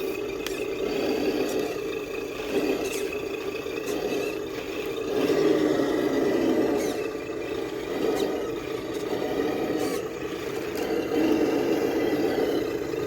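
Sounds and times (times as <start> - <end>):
rc truck motor whining: 0.0 - 13.0.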